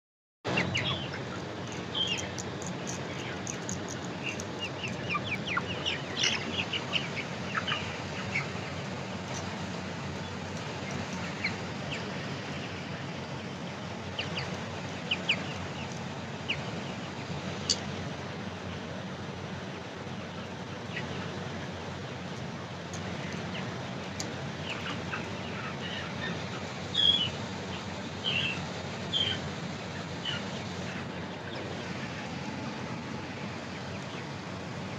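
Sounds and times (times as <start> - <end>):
chicks peeping: 0.5 - 34.9.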